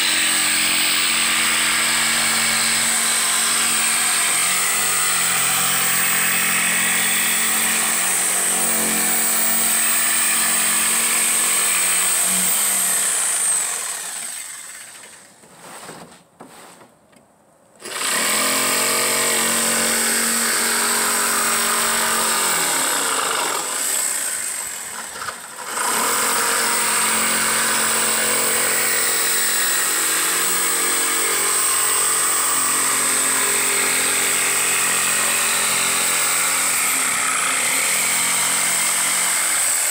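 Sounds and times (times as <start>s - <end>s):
jigsaw cutting plywood: 0.0s - 16.1s, 17.8s - 39.9s.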